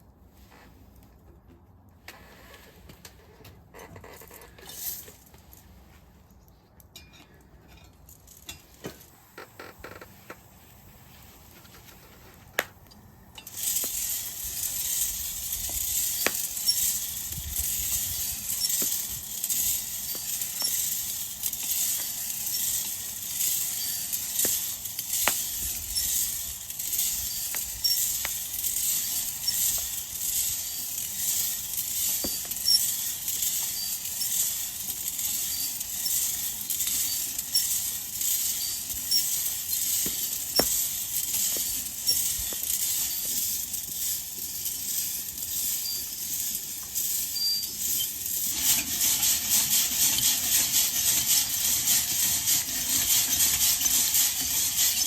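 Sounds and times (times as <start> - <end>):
wood fire crackling: 4.0 - 55.0.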